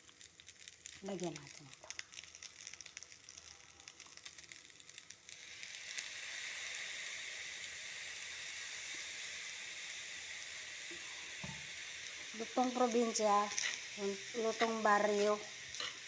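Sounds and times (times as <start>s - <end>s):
rice sizzling in a pan: 0.0s - 16.0s.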